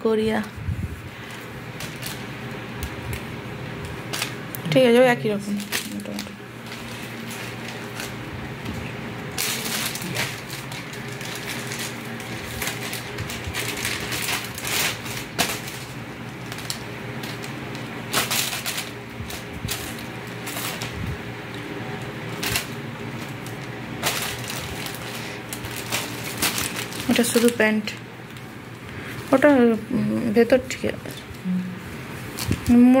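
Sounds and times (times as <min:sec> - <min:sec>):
cloth and plastic rustling: 0:00.0 - 0:33.0
steady low hum: 0:00.0 - 0:33.0.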